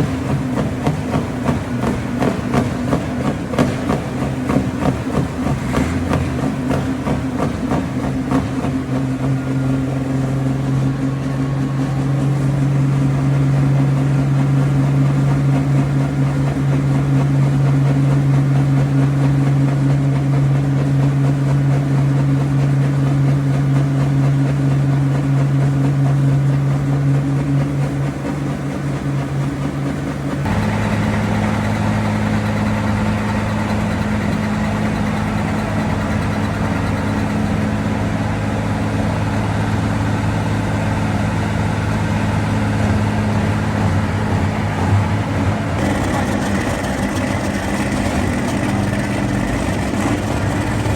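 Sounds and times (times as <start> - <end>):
heavy engine idling: 0.0 - 50.9.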